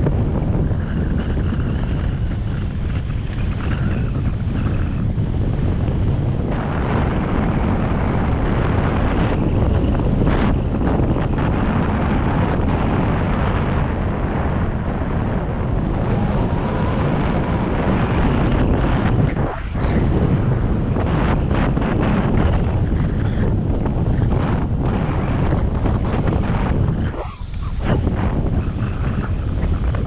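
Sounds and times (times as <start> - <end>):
heavy wind buffeting microphone: 0.0 - 30.0.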